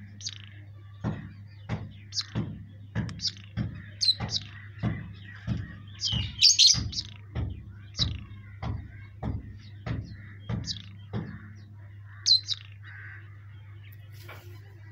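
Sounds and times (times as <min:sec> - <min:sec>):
caged birds chirping: 0:00.0 - 0:14.9
steady low hum: 0:00.0 - 0:14.9
regular knocking: 0:00.1 - 0:12.8.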